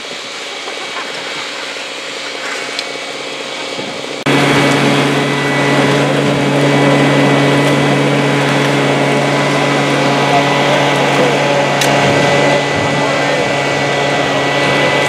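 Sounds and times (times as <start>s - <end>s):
machinery running: 0.0s - 15.0s
small engine running: 0.0s - 15.0s.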